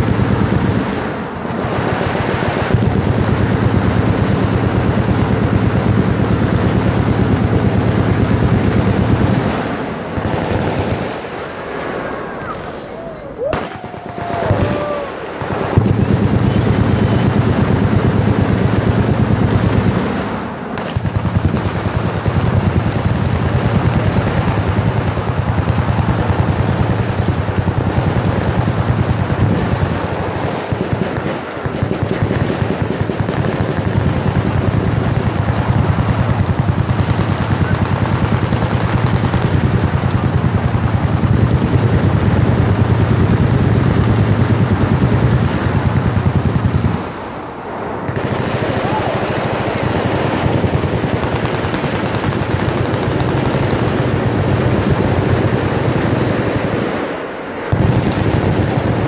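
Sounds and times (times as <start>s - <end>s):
machine guns firing: 0.0s - 11.6s, 12.5s - 47.4s, 48.0s - 59.0s.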